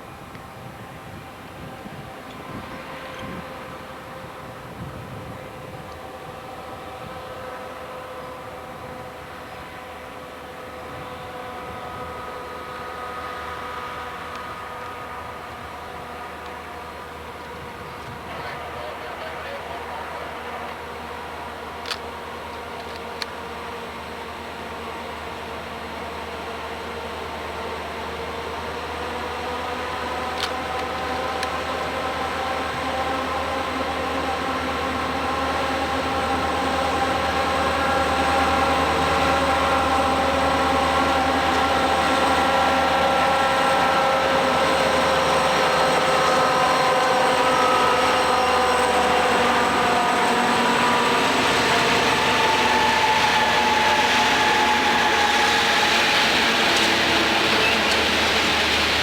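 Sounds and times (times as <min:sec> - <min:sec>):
multi-tone whine: 0:00.0 - 0:59.0
train rumble: 0:00.0 - 0:59.0.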